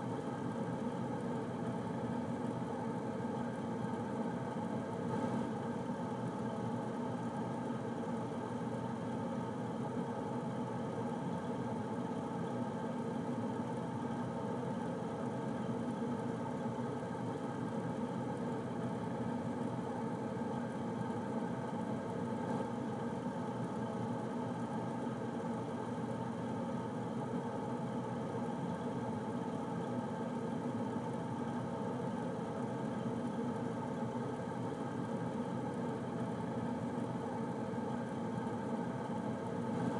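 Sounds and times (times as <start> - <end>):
air conditioner humming: 0.0 - 39.9.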